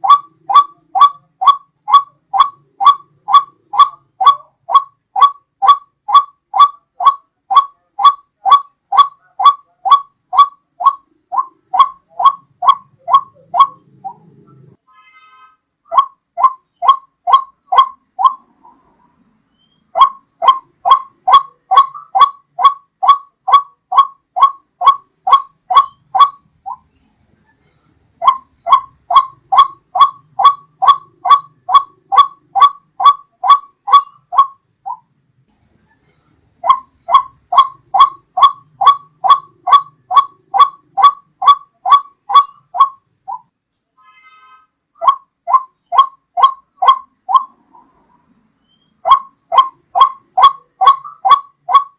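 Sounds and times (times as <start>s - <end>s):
waterhen calling: 0.0s - 14.8s, 15.9s - 19.0s, 19.6s - 27.0s, 28.2s - 35.0s, 36.6s - 43.5s, 45.0s - 48.0s, 48.8s - 51.9s.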